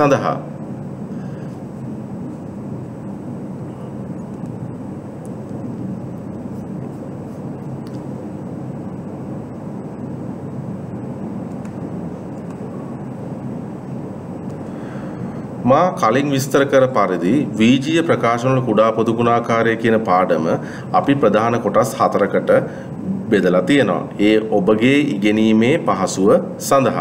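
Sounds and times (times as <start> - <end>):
steady low rumbling: 0.0 - 27.0.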